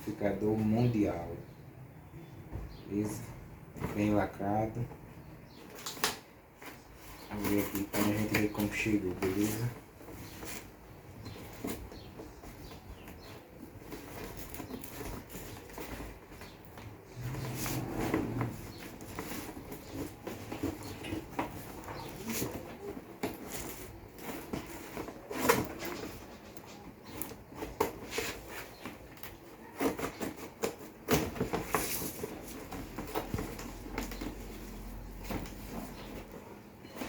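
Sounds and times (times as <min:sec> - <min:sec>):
cardboard rustling and scraping: 0:05.5 - 0:37.0.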